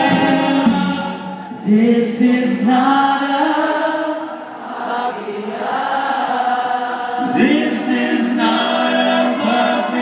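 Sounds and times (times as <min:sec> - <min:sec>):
male singers singing in harmony: 0:00.0 - 0:10.0.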